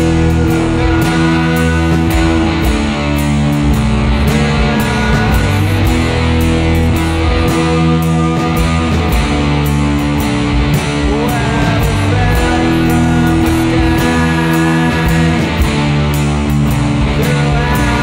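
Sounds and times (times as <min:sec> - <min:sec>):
rock music with electric guitars: 0:00.0 - 0:18.0.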